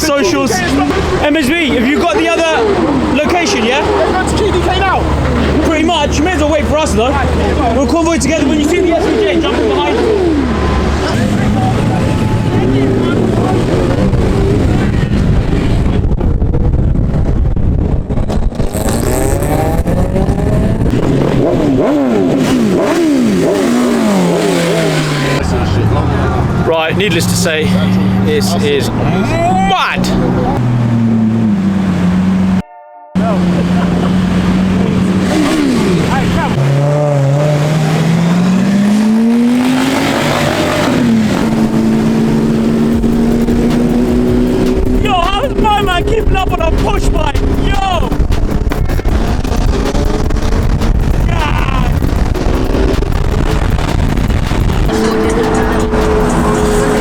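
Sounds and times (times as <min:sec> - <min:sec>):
car engine revving: 0:00.0 - 0:32.6, 0:33.2 - 0:57.0
traffic engine rumble: 0:00.0 - 0:32.6, 0:33.2 - 0:57.0.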